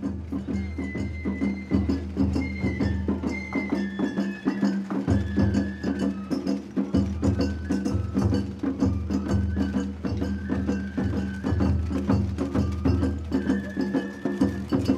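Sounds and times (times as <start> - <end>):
drum and percussion strikes: 0.0 - 14.9
high bamboo flute melody: 0.0 - 14.9.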